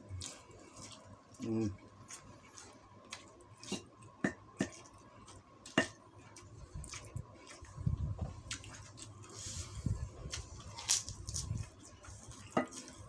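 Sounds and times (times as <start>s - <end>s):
eating sounds: 0.0s - 13.0s.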